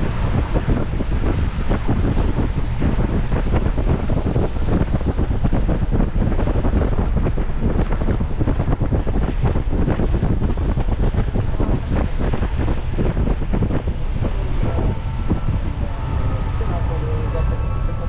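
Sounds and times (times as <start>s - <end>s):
road rumble: 0.0s - 18.0s
wind buffeting microphone: 0.0s - 18.0s.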